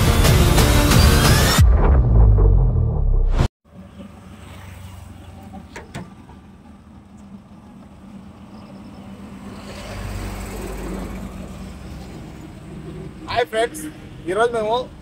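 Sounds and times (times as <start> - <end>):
vehicle engine and road hum: 2.9 - 15.0.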